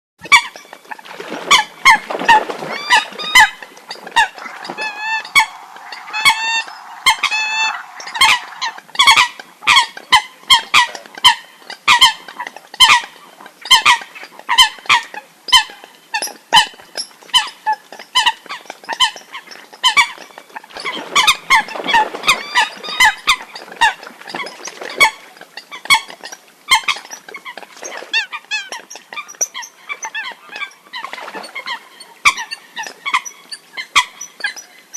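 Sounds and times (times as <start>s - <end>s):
water hens honking: 0.3s - 15.8s, 16.6s - 34.9s
wavering bird calls: 1.5s - 13.1s, 18.2s - 34.9s.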